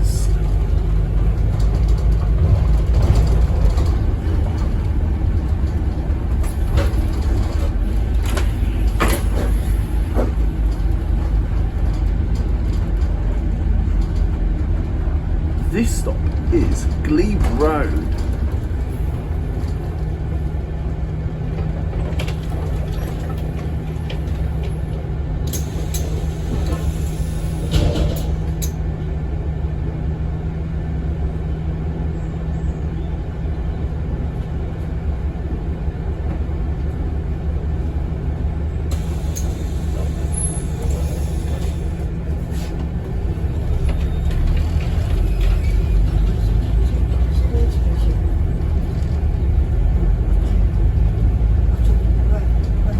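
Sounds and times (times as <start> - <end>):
bus engine droning: 0.0 - 52.9.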